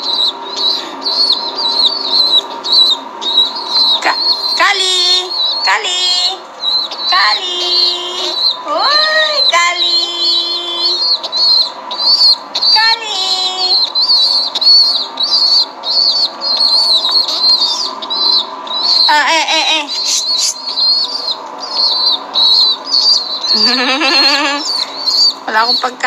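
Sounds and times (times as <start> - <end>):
chick peeping: 0.0 - 26.0.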